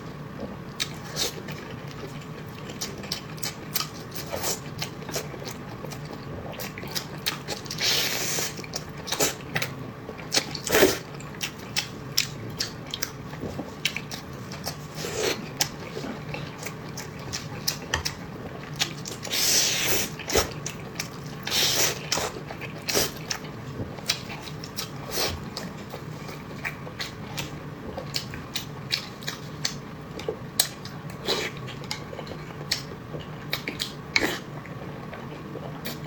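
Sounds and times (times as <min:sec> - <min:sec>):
wet chewing and mouth clicks: 0:00.7 - 0:36.0.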